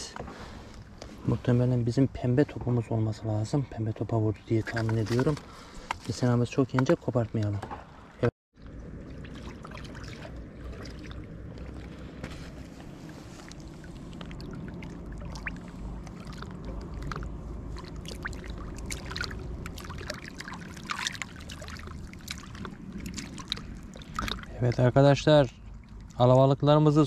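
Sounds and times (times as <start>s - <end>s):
river water rumbling: 0.0s - 27.0s.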